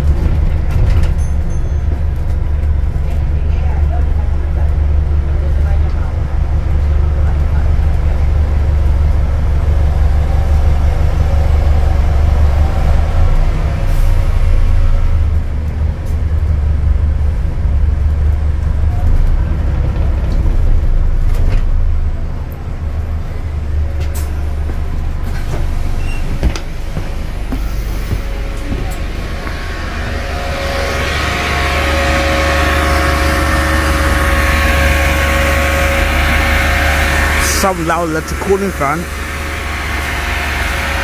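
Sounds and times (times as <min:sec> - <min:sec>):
bus drivetrain and road drone: 0:00.0 - 0:41.0.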